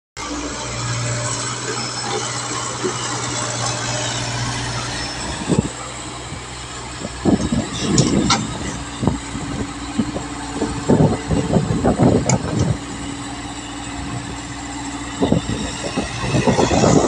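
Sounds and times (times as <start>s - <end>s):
diesel engine running: 0.2s - 17.0s.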